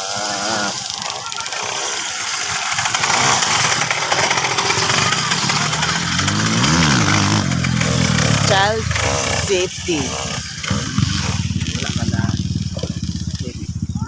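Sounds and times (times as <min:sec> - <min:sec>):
dirt bike engines running: 0:00.0 - 0:14.0.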